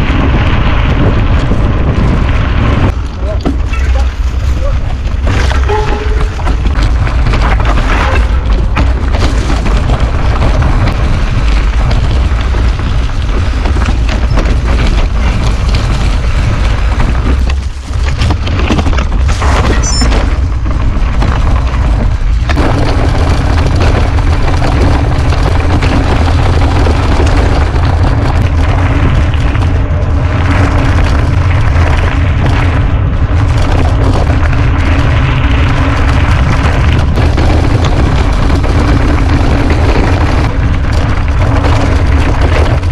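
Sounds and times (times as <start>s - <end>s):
bike riding noise: 0.0s - 42.9s
wind buffeting microphone: 0.0s - 42.9s.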